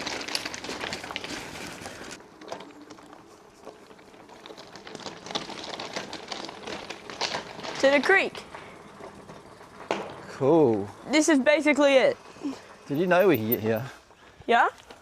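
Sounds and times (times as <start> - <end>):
movement crunching over gravel: 0.0 - 15.0.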